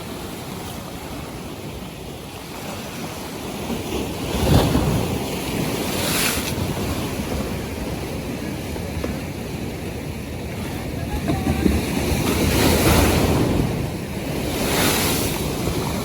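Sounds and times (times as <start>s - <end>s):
waves breaking: 0.0s - 16.0s.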